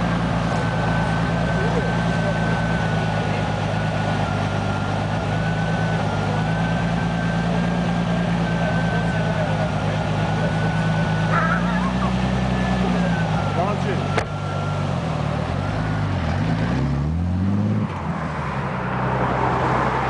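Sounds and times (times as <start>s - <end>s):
turbo whine: 0.0s - 17.2s
car engine cruising: 0.0s - 20.0s.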